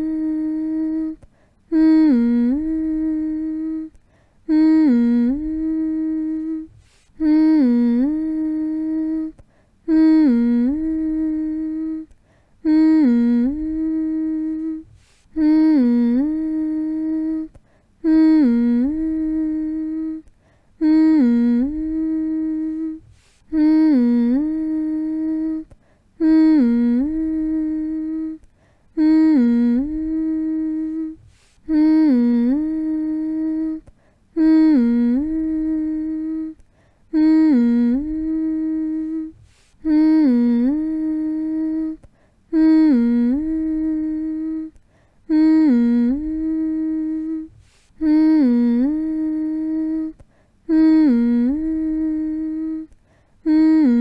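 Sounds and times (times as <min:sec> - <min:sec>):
person humming a lullaby: 0:00.0 - 0:54.0.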